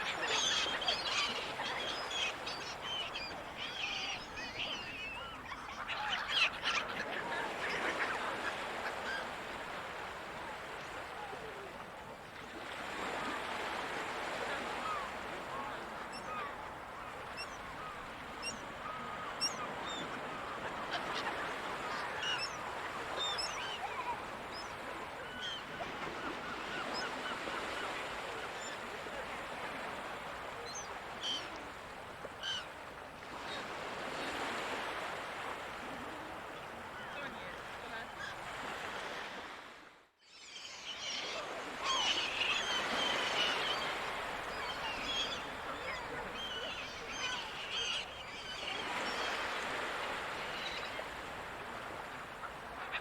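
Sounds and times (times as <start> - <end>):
seagulls calling: 0.0 - 11.8, 12.6 - 39.5, 40.3 - 53.0.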